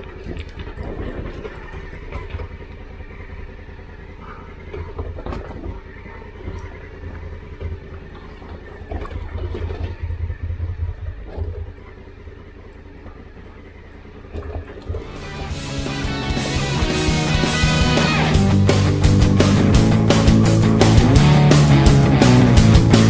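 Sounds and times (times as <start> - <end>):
motorcycle engine at low revs: 0.0 - 23.0.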